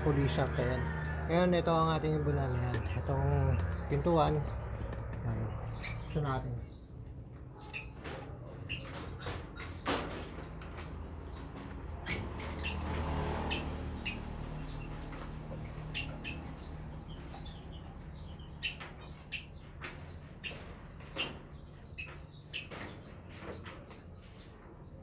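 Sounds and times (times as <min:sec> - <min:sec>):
small birds chirping: 0:01.6 - 0:25.0.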